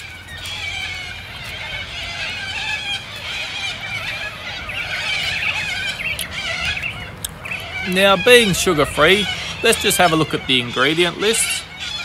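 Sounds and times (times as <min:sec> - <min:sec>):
birds calling and warbling: 0:00.0 - 0:12.0.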